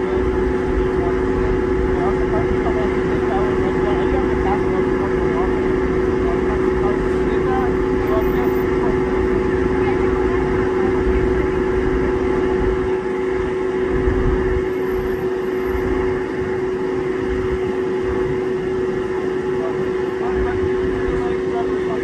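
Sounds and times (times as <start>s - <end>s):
vehicle idling: 0.0s - 22.0s.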